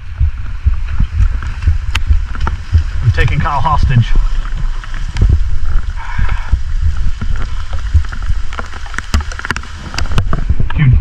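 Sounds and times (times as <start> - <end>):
water sloshing and splashing: 0.0 - 11.0
wind rumble on microphone: 0.0 - 11.0.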